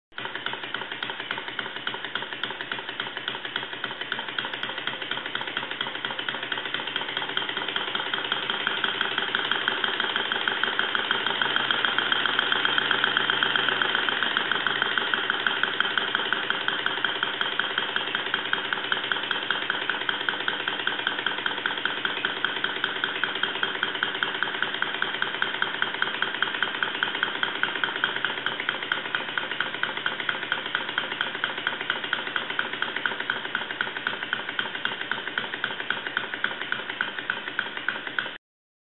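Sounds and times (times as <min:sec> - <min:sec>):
steam engine running: 0:00.2 - 0:38.4.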